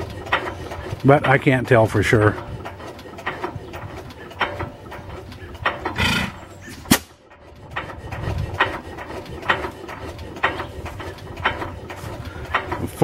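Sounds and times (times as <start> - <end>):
old stationary engine knocking: 0.0 - 13.0
engine puff and sharp crack: 2.4 - 13.0.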